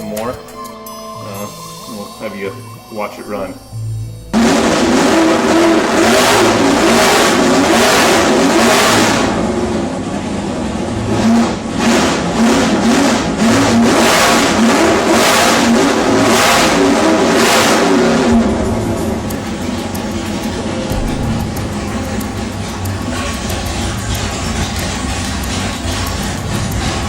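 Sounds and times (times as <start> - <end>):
car engine revving on a dyno: 4.3 - 27.0.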